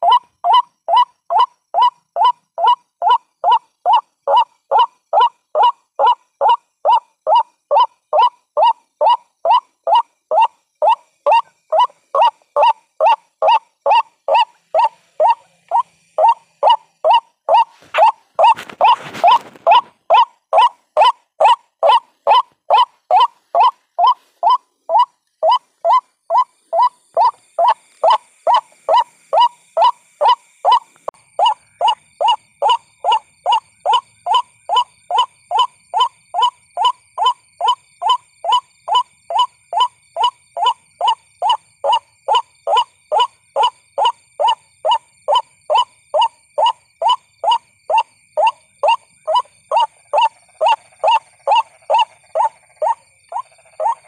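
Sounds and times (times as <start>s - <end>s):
waterhen call: 0.0s - 54.0s.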